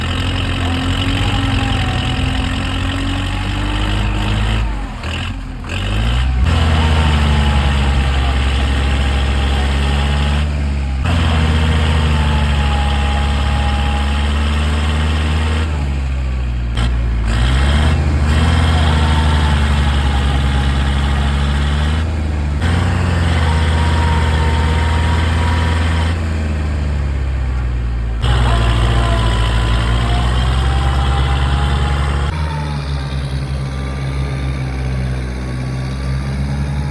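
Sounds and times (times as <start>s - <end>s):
tractor engine labouring: 0.0s - 36.9s.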